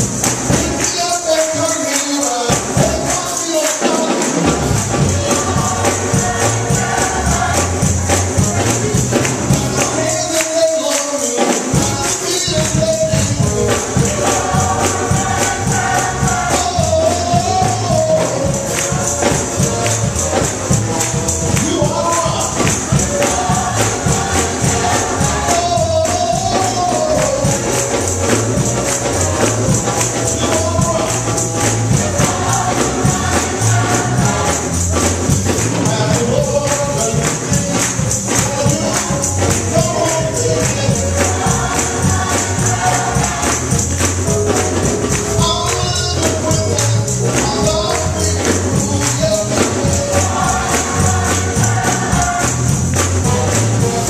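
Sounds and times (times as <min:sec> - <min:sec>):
gospel choir singing: 0:00.0 - 0:54.0
hand clapping: 0:00.0 - 0:54.0
tambourine shaking: 0:00.0 - 0:54.0.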